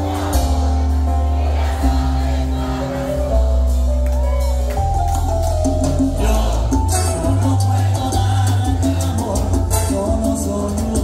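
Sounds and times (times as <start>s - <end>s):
deep bass line: 0.0s - 11.0s
live salsa band playing: 0.0s - 11.0s.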